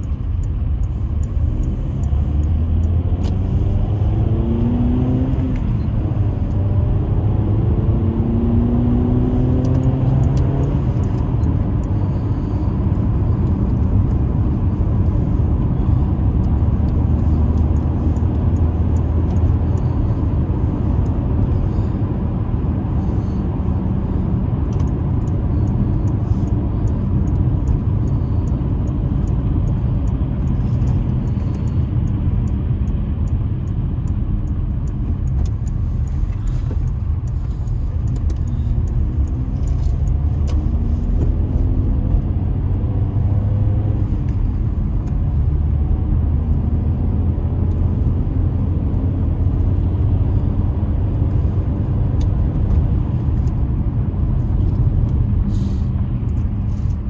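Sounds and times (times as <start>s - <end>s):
car engine accelerating: 0.0s - 57.0s
engine and tyre rumble: 0.0s - 57.0s.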